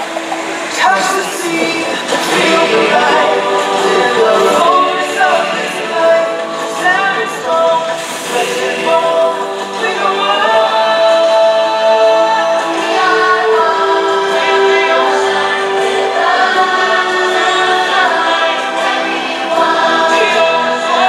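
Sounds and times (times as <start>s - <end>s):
choir singing sustained notes: 0.0s - 21.0s
orchestral music: 0.0s - 21.0s.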